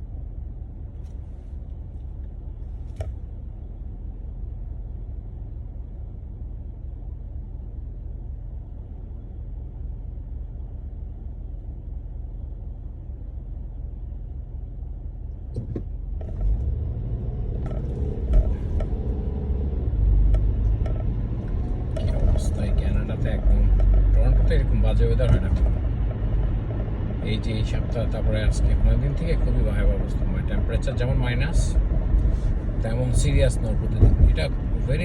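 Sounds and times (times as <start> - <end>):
car road noise rumble: 0.0 - 35.0.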